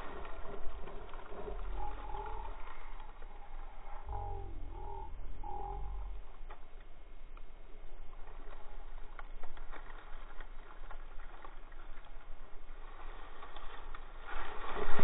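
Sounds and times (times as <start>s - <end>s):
dry leaves and twigs crackling: 0.0s - 15.0s
low steady rumble: 0.0s - 15.0s.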